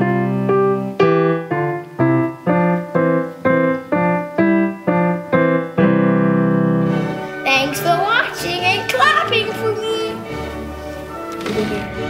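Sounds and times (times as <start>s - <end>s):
keyboard piano melody: 0.0s - 12.0s.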